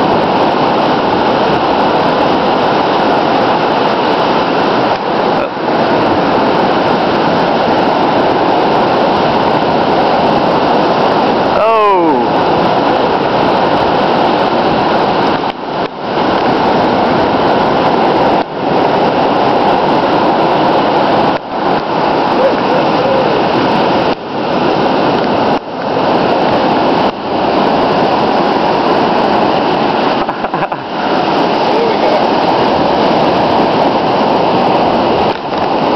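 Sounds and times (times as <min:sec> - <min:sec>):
heavy surf breaking: 0:00.0 - 0:35.9.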